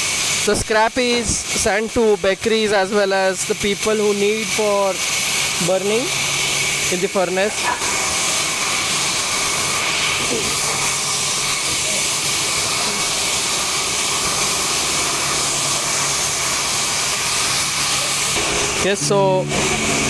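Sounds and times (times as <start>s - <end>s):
sawmill machinery rushing noise: 0.0s - 20.0s.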